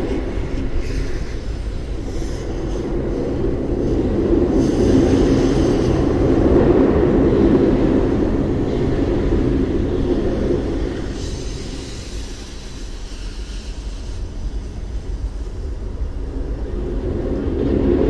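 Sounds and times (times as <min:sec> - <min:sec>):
loud mechanical rumble: 0:00.0 - 0:18.0.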